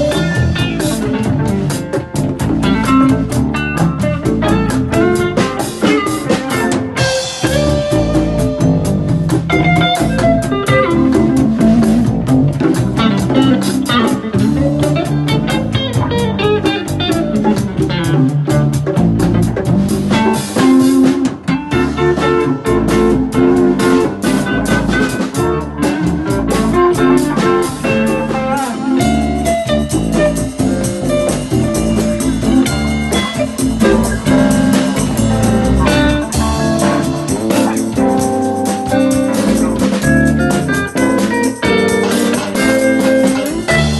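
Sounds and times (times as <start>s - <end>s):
drum kit: 0.0s - 43.9s
guitar melody: 0.0s - 43.9s.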